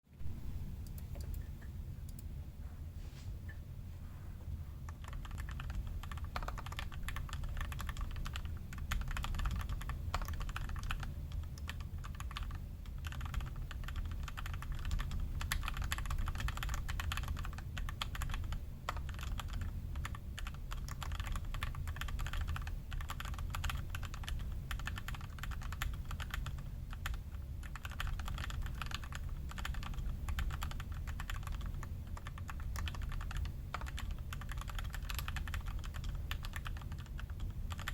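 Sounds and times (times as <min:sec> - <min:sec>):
mechanical keyboard typing: 0:04.9 - 0:37.9.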